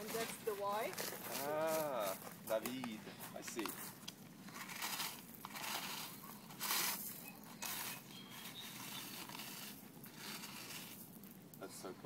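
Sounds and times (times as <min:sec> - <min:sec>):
feet shifting on gravel: 0:00.0 - 0:11.2
stick scraping through gravel: 0:00.0 - 0:11.3.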